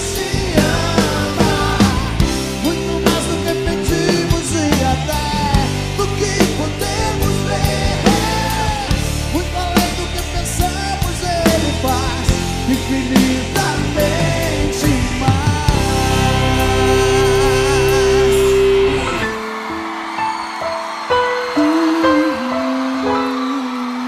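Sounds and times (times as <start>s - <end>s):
man singing into microphone: 0.0s - 19.4s, 21.5s - 24.0s
drums beating: 0.0s - 19.5s
live rock-pop band playing: 0.0s - 24.0s.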